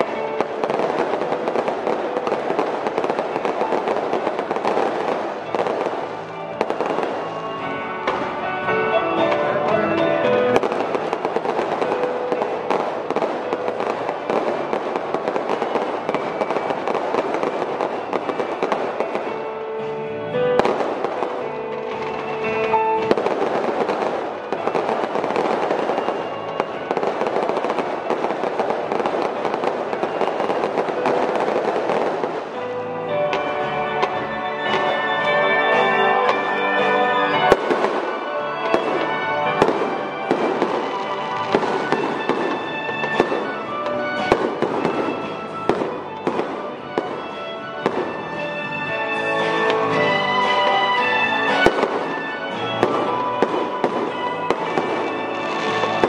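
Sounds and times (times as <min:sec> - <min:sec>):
fireworks crackling and popping: 0:00.0 - 0:56.0
music playing: 0:00.0 - 0:56.0.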